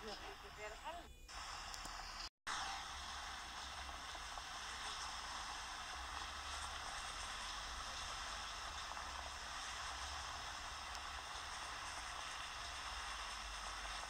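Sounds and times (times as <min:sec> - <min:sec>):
fountain water splashing: 0:02.5 - 0:14.0.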